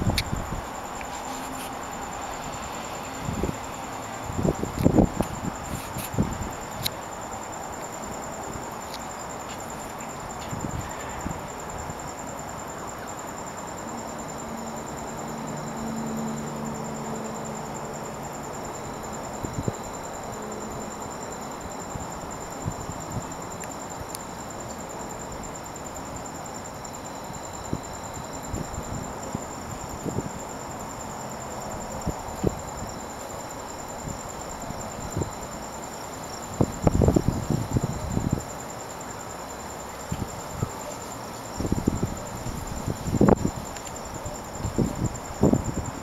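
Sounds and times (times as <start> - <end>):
crickets chirping: 0.0 - 46.0
outdoor hiss: 0.0 - 46.0.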